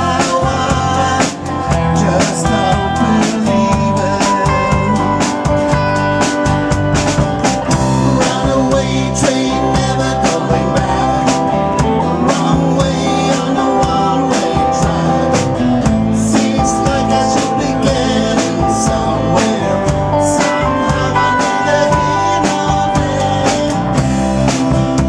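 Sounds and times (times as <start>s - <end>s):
acoustic guitar strumming: 0.0s - 25.0s
electric bass: 0.0s - 25.0s
electric guitar: 0.0s - 25.0s
keyboards: 0.0s - 25.0s
steady drum beat: 0.0s - 25.0s.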